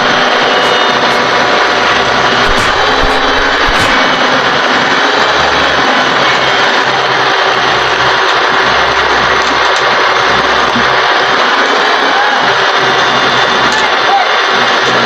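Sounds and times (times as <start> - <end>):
machinery engine roaring: 0.0 - 15.0.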